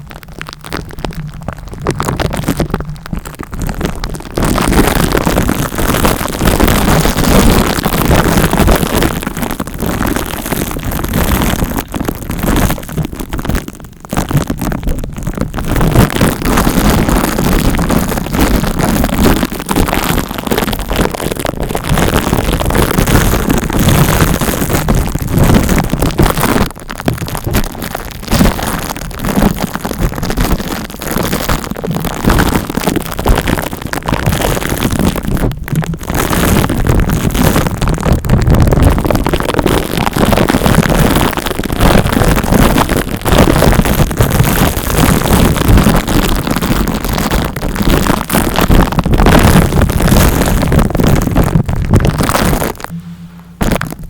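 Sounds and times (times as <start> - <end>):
scratching and rubbing on microphone: 0.0 - 54.0.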